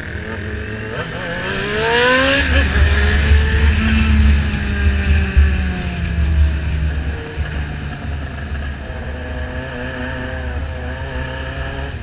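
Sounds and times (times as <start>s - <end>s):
motorcycle engine accelerating: 0.0s - 12.0s
wind rumble on microphone: 1.7s - 12.0s.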